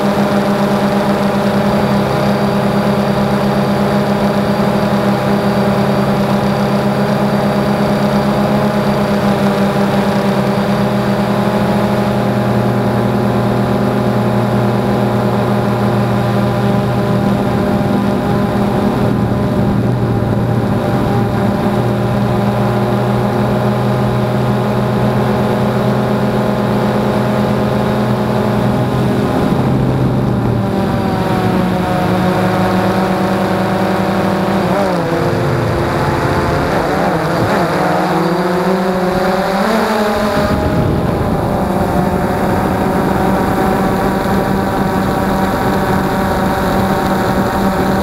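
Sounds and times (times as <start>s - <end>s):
drone propellers whining: 0.0s - 48.0s.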